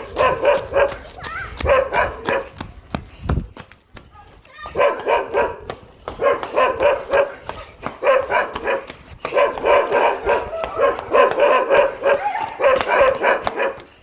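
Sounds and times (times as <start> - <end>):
puppy barking: 0.0 - 2.6, 4.7 - 13.9.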